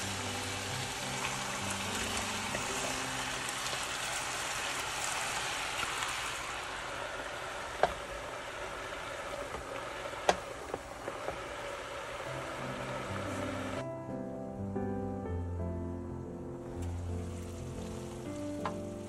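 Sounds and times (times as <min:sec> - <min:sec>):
food sizzling in a frying pan: 0:00.0 - 0:13.8, 0:16.6 - 0:19.0.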